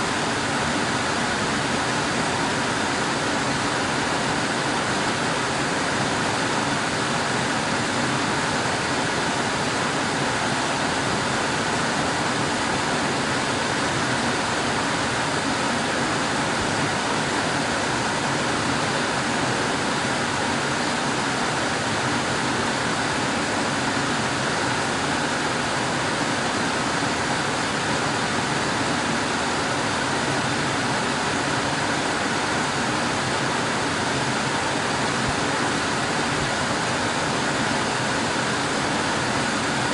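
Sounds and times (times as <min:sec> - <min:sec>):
air conditioner blowing air: 0:00.0 - 0:39.9.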